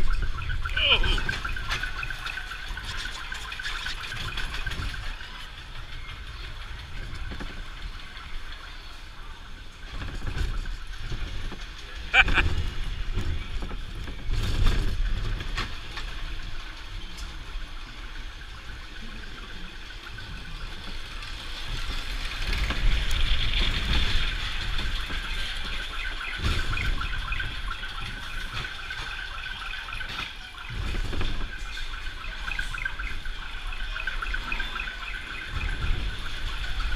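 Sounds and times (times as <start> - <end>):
wheels rumbling on steel track: 0.0 - 36.9
wind buffeting microphone: 0.0 - 36.9.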